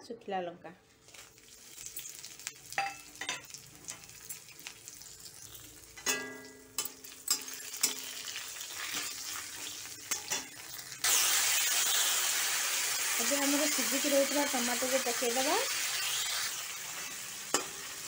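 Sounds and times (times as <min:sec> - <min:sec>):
spices sizzling in hot oil: 0:00.9 - 0:18.0.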